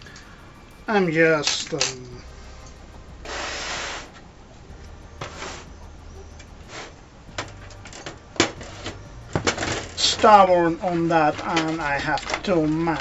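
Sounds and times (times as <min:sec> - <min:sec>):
computer parts scraping and rustling: 0:00.0 - 0:13.0.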